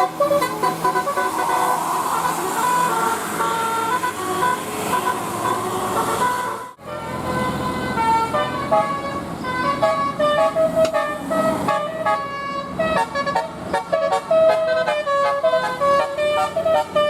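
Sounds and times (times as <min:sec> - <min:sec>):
musical horn playing tune: 0:00.0 - 0:17.0.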